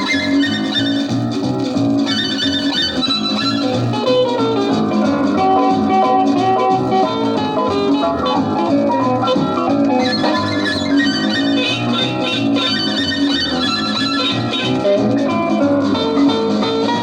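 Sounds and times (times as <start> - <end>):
boogie dance band record: 0.0 - 17.0.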